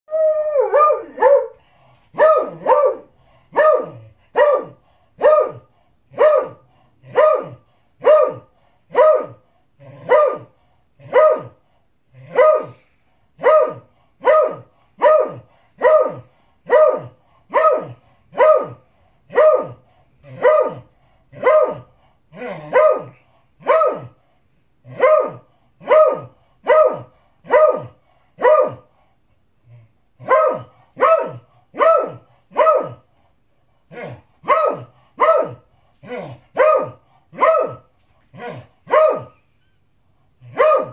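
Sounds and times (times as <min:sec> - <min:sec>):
dog barking: 0:00.6 - 0:09.4, 0:10.0 - 0:11.6, 0:12.2 - 0:12.8, 0:13.4 - 0:24.2, 0:24.9 - 0:28.9, 0:30.2 - 0:33.1, 0:33.9 - 0:39.4, 0:40.5 - 0:40.9.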